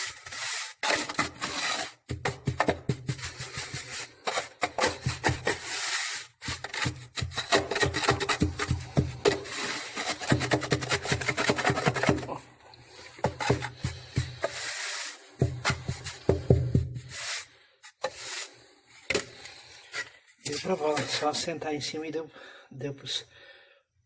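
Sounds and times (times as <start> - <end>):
scraping and rubbing strokes: 0.0 - 2.1, 3.1 - 19.1, 19.7 - 21.5.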